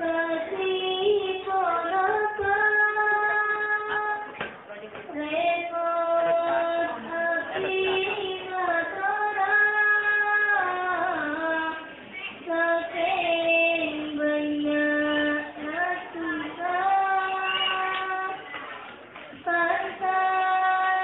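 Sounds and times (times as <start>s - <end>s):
girl singing devotional song: 0.0s - 18.6s, 19.3s - 21.0s.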